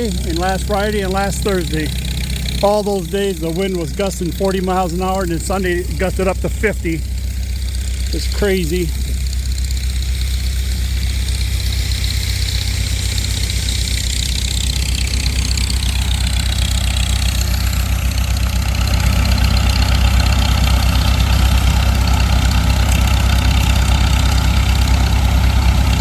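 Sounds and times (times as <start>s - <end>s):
grain auger hum: 0.0s - 26.0s.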